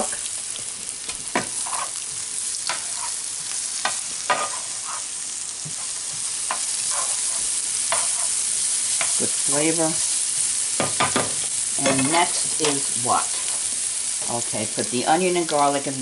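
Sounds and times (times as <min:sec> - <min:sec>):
onions sizzling in a frying pan: 0:00.0 - 0:16.0
tongs scraping a pan: 0:01.2 - 0:14.3.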